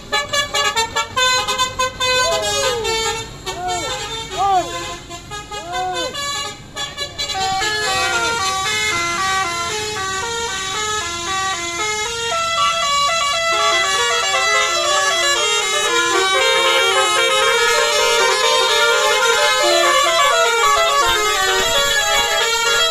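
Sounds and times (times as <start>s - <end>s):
multi-note bus air horn tune: 0.0s - 22.9s.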